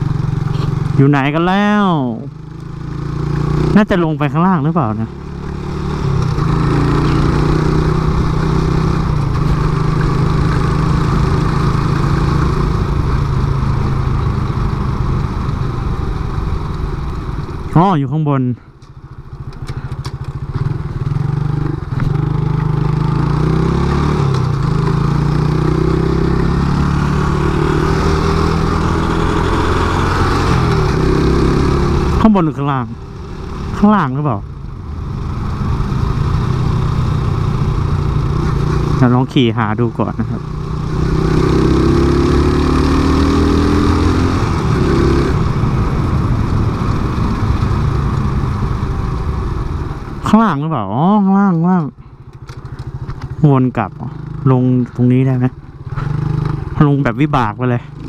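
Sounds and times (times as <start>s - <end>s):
motorcycle engine accelerating: 0.0s - 58.0s
wind and road noise: 0.0s - 58.0s.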